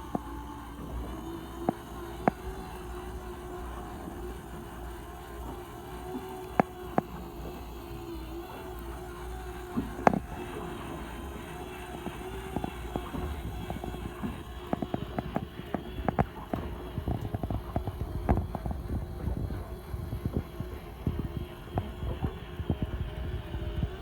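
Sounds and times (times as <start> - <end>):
sharp clicks and knocks: 0.0 - 22.8
boat engine humming: 0.0 - 24.0.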